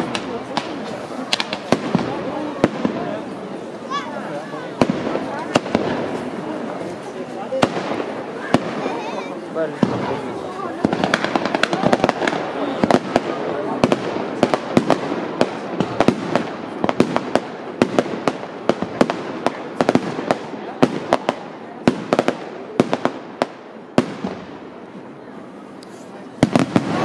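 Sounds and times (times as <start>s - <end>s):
fireworks bangs and pops: 0.0s - 3.8s, 4.7s - 24.8s, 25.8s - 27.0s.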